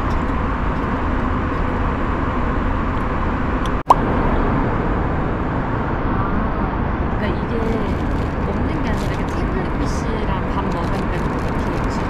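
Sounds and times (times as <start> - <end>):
jet airliner cabin noise: 0.0 - 12.0.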